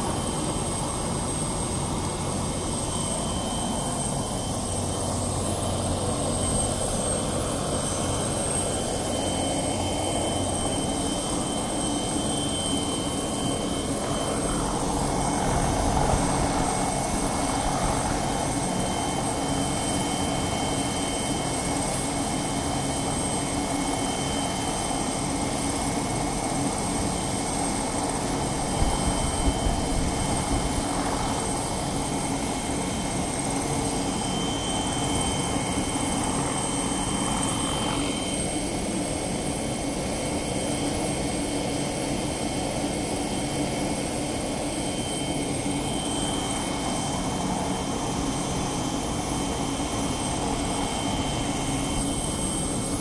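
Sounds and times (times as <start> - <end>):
helicopter engine whine and rotor: 0.0 - 53.0.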